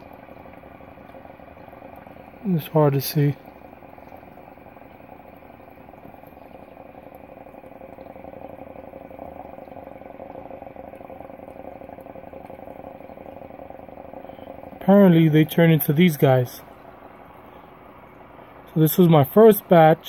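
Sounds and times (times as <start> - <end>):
aquarium pump hum: 0.0 - 20.0.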